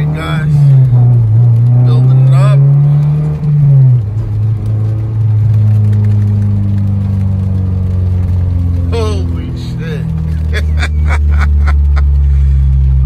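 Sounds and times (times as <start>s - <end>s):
car engine heard from cabin: 0.0s - 13.0s.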